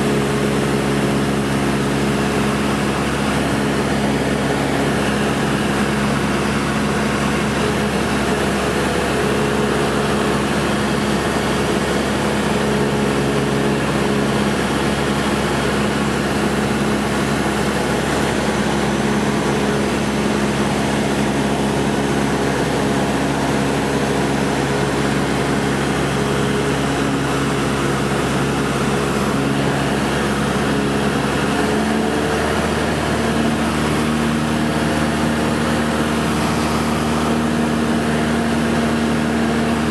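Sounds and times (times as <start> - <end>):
piston engine and propeller drone: 0.0 - 39.9.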